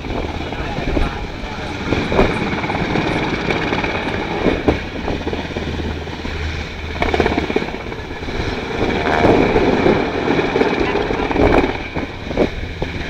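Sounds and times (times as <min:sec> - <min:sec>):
helicopter rotor and turbine noise: 0:00.0 - 0:13.0.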